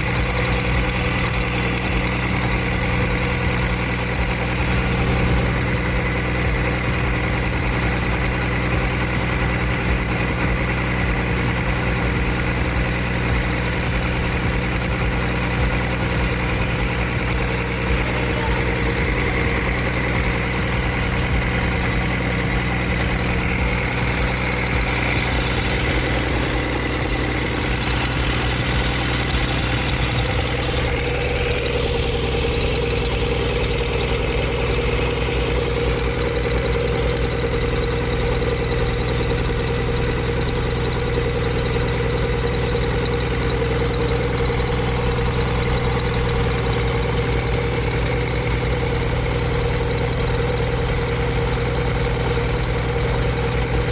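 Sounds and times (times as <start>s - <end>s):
diesel bus engine idling: 0.0s - 53.9s.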